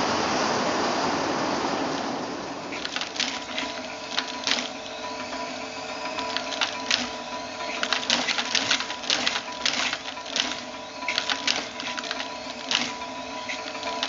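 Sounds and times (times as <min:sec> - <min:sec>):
machine hum: 0:00.0 - 0:14.0
loom clattering: 0:02.7 - 0:14.0.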